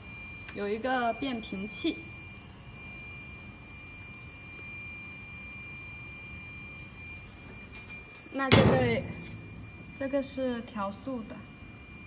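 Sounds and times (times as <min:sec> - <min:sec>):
high-pitched electronic whine: 0:00.0 - 0:12.0
low electrical hum: 0:00.0 - 0:12.0.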